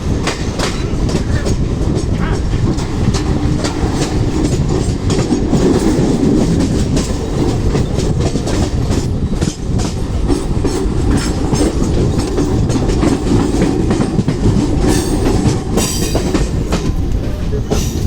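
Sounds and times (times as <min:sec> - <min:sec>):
electric train rumbling: 0:00.0 - 0:18.0
wheels clicking over rail joints: 0:00.0 - 0:18.0.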